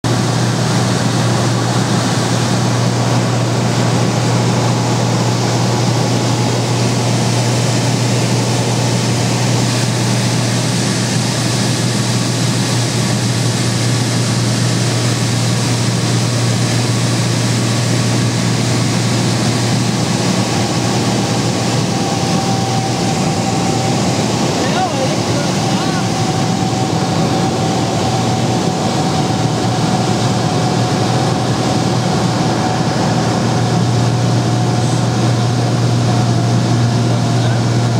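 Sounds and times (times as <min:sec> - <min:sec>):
light aircraft engine droning: 0:00.1 - 0:37.9.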